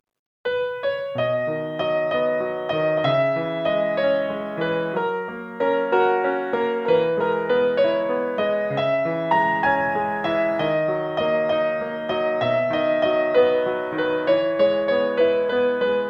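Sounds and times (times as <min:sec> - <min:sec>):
soft piano music: 0:00.5 - 0:16.0.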